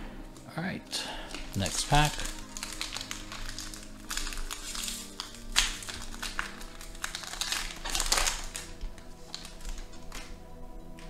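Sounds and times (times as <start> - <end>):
background music: 0.0 - 11.0
foil wrapper crinkling and tearing: 1.0 - 10.4.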